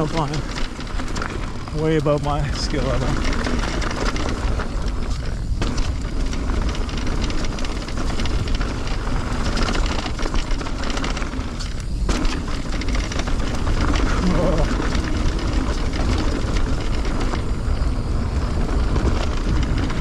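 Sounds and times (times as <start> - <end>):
bike rattling: 0.0 - 20.0
bike tyres on loose gravel: 0.0 - 20.0
wind rumble on microphone: 0.0 - 20.0.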